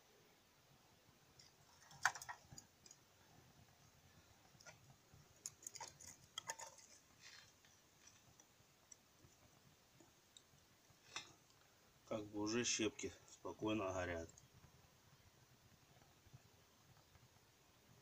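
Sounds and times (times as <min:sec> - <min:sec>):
wood chips crackling in fire: 0:01.3 - 0:18.0.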